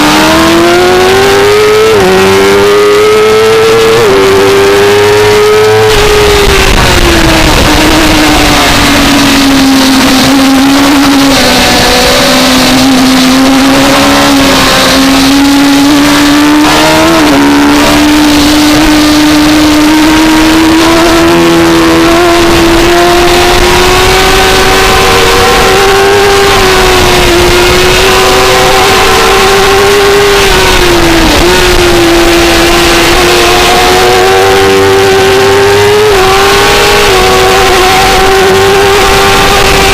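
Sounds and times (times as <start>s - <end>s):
racing motorcycle engine at high revs: 0.0s - 39.9s
wind noise: 0.0s - 39.9s.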